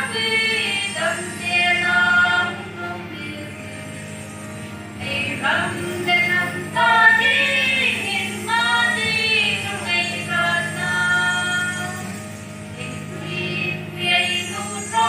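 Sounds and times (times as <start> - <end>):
women and children singing amplified: 0.0 - 4.0, 5.0 - 15.0.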